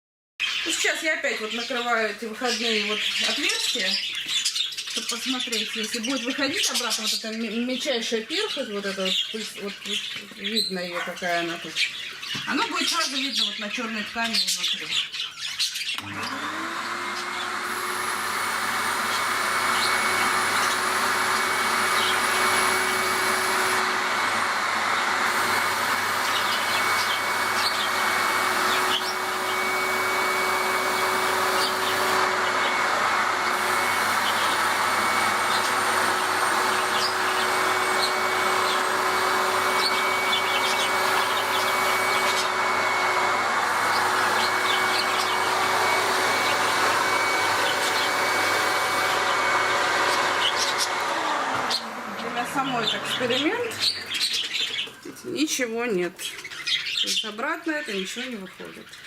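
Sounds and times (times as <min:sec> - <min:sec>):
vacuum cleaner whining: 0:00.4 - 0:57.2.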